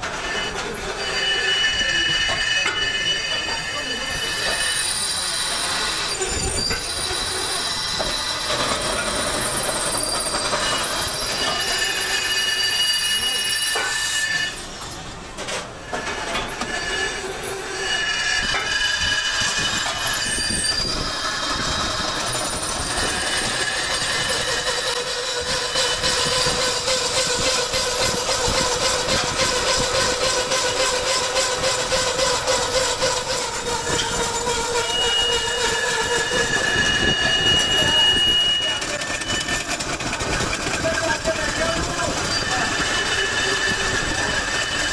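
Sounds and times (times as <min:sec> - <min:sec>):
lathe grinding noise: 0:00.0 - 0:15.1, 0:15.8 - 0:44.9
lathe cutter squealing on metal: 0:00.0 - 0:44.9.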